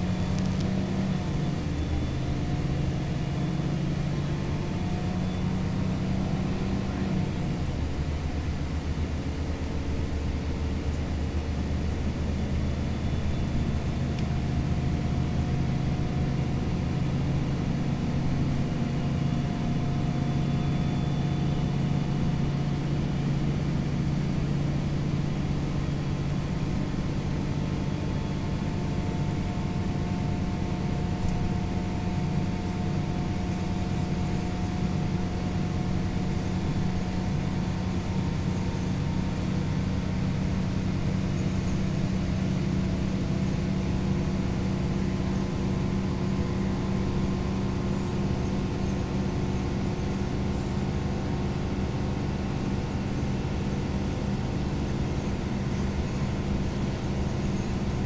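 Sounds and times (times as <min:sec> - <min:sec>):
bus diesel engine running: 0:00.0 - 0:58.0
road noise: 0:00.0 - 0:58.0.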